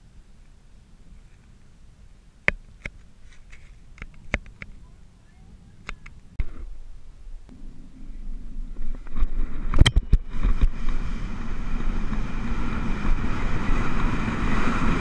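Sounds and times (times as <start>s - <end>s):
faint low wind rumble: 0.0s - 15.0s.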